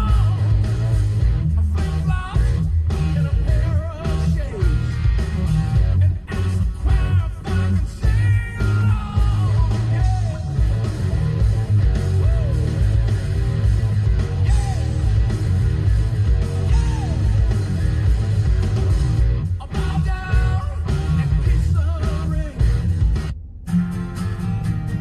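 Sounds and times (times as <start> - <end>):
rock song with singing: 0.0 - 23.4.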